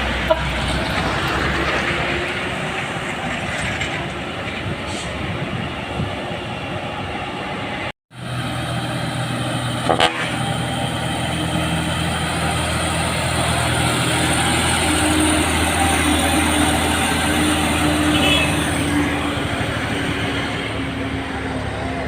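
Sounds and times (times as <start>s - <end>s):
truck diesel engine hum: 0.0s - 22.0s.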